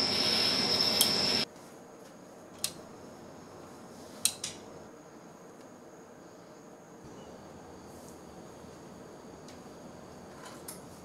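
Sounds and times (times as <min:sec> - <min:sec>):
loud steady hiss: 0:00.0 - 0:11.0.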